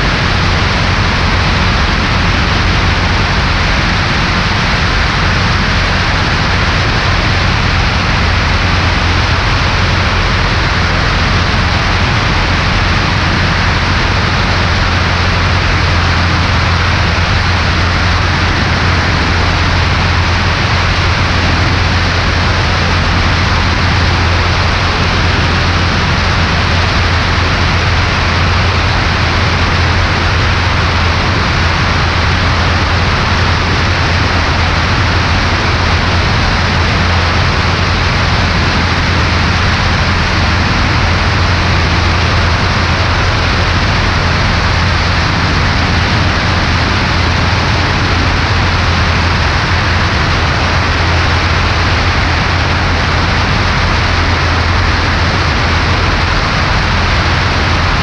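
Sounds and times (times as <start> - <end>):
aircraft piston engine drone: 0.0 - 58.0
wind rushing over microphone: 0.0 - 58.0.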